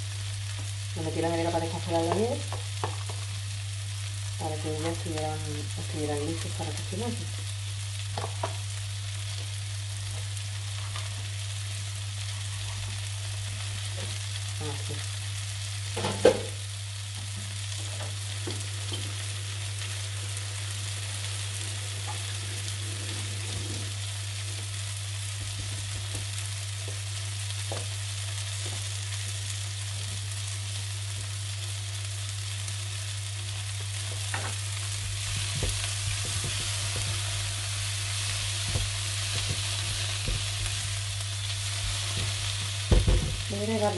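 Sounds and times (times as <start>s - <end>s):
vegetables sizzling in a frying pan: 0.0s - 43.9s.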